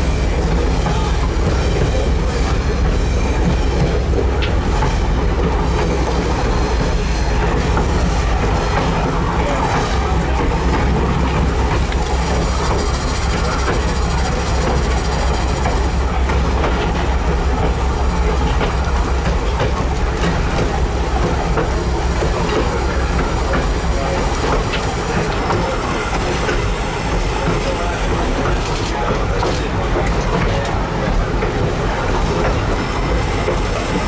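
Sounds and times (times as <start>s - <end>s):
train rumbling along track: 0.0s - 34.0s.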